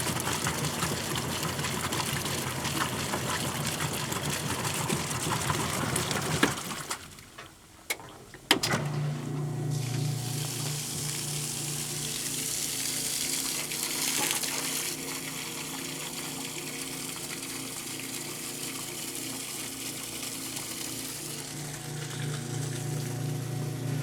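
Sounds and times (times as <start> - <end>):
water gushing: 0.0 - 7.3, 9.0 - 24.0
washing machine motor and pump: 0.0 - 24.0.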